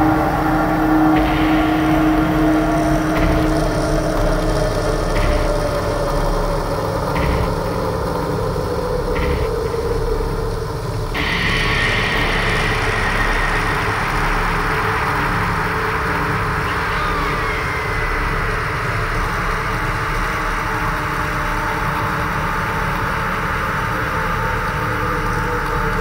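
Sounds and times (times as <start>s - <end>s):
dense wall of noise: 0.0s - 26.0s
low droning tones: 0.0s - 26.0s.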